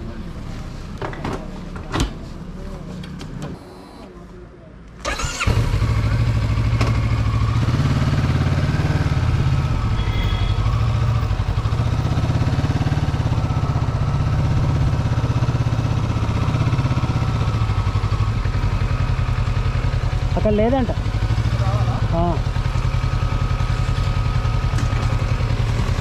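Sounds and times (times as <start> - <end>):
motorcycle engine idling: 5.1 - 26.0.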